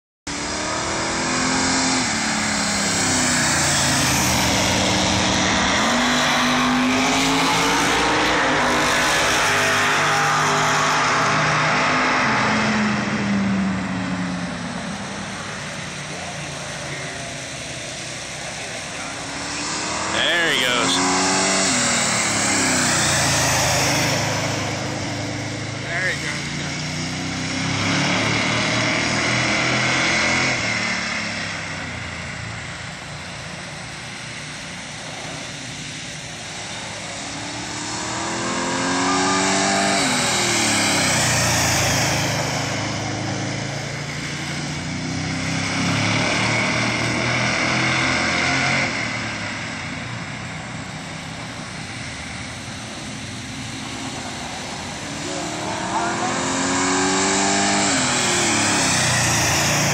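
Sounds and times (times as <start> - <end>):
race car engine passing: 0.3 - 59.9.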